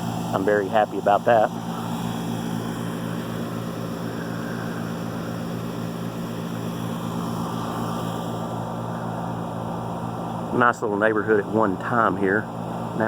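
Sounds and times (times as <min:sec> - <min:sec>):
condenser fan rushing: 0:00.0 - 0:13.0
heat pump compressor hum: 0:00.0 - 0:13.0.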